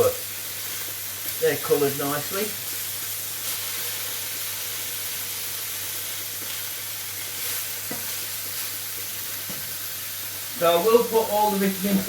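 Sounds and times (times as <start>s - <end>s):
liver sizzling in a pan: 0.0s - 12.0s.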